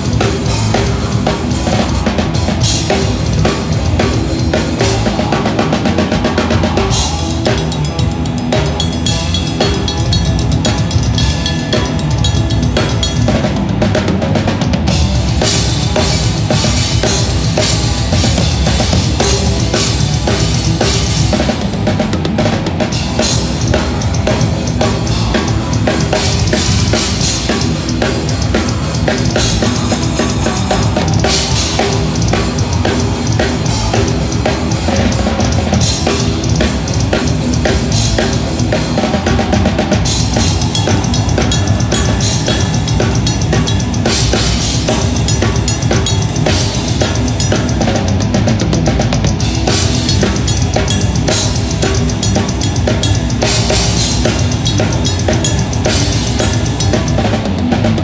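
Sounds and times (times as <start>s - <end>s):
black metal band playing live: 0.0s - 58.0s
fast continuous drumming: 0.0s - 58.0s.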